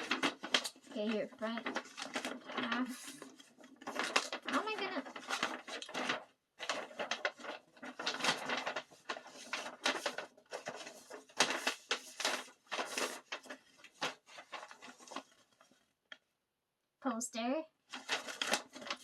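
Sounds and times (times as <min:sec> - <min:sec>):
stiff paper rustling and crinkling: 0:00.0 - 0:16.2, 0:17.9 - 0:19.0.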